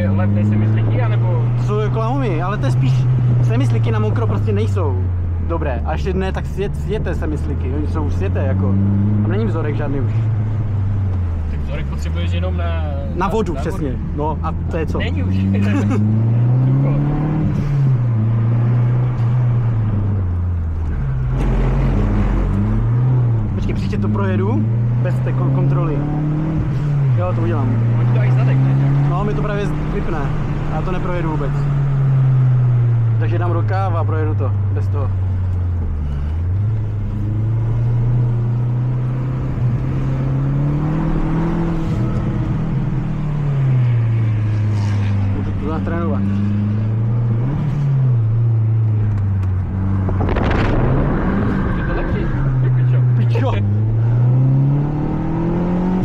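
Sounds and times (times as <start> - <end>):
car engine under load: 0.0 - 56.0
rushing road noise: 0.0 - 56.0.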